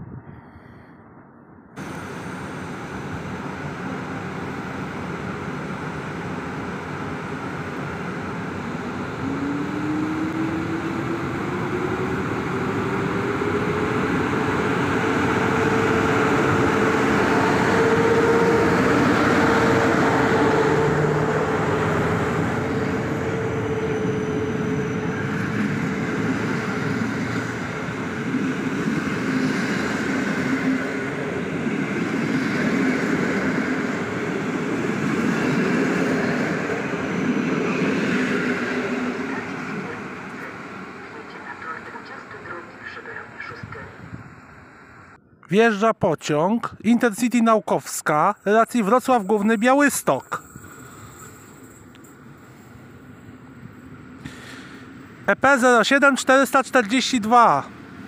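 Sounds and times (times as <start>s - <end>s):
train running noise: 1.8s - 45.2s, 47.8s - 58.0s.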